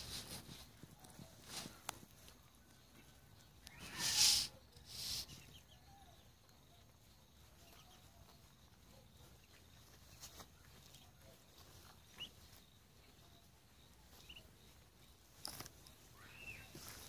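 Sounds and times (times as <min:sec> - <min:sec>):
rustling: 0:00.0 - 0:05.6, 0:07.0 - 0:17.0
ducklings peeping: 0:00.2 - 0:17.0.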